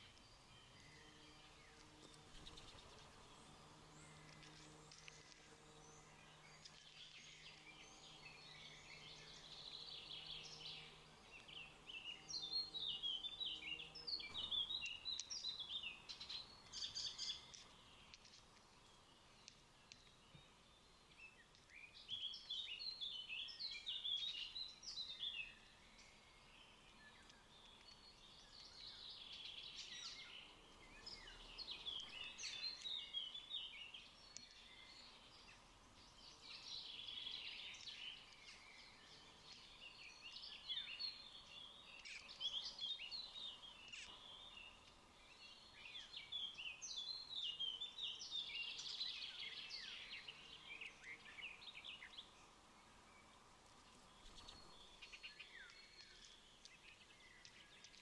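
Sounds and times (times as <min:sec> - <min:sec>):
birds chirping and twittering: 0:00.0 - 0:58.0.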